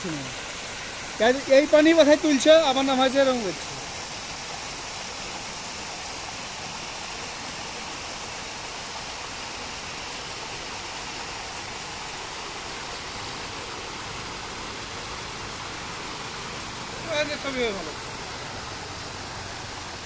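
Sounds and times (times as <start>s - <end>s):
waterfall splashing over rocks: 0.0s - 20.0s.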